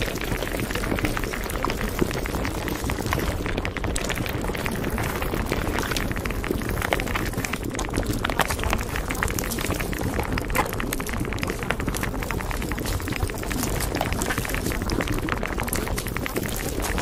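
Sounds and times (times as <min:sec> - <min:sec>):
water bubbling and gurgling: 0:00.0 - 0:17.0.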